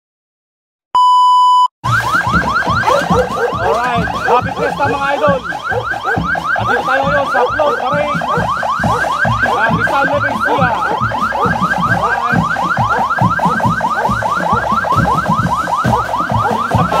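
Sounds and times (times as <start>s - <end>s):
police siren yelping: 1.8s - 17.0s.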